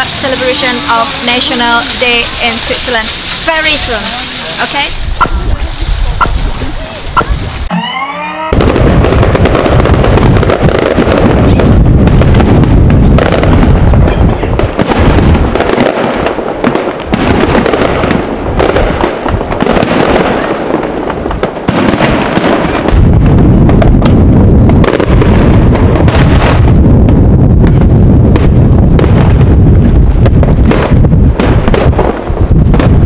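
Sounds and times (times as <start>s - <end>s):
fireworks crackling: 0.0s - 7.7s, 8.5s - 33.0s.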